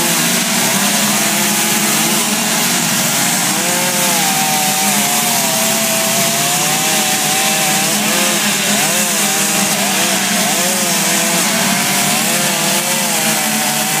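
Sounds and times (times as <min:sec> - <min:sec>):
chainsaw carving wood: 0:00.0 - 0:14.0.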